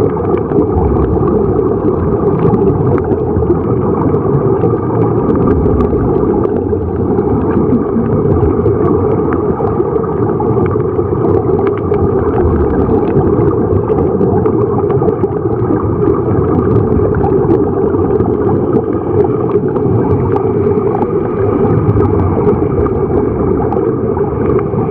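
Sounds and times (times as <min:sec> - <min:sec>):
air bubbles streaming: 0:00.0 - 0:24.9
muffled underwater rumble: 0:00.0 - 0:24.9.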